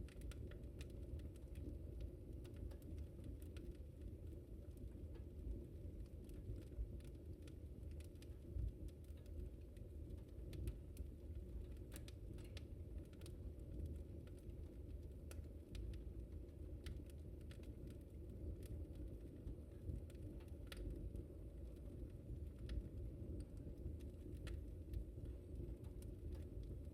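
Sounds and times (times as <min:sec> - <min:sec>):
low rumble of burning: 0:00.0 - 0:26.9
wood fire crackling: 0:00.0 - 0:26.9.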